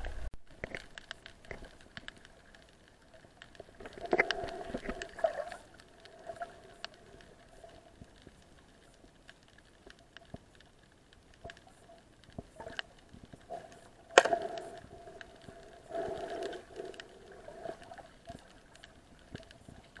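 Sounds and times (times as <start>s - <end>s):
faint underwater clicks and knocks: 0.0s - 20.0s.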